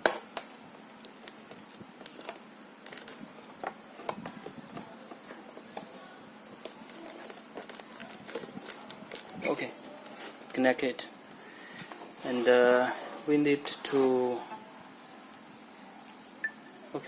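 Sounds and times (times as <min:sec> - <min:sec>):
low room hiss: 0:00.0 - 0:17.0.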